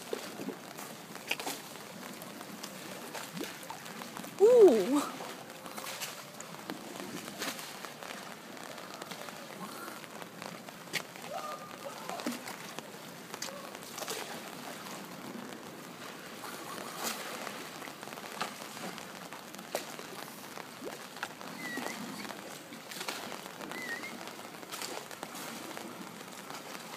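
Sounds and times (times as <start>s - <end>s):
sharp pops and crackles: 0.0s - 26.9s
water splashing and dripping: 0.0s - 26.9s.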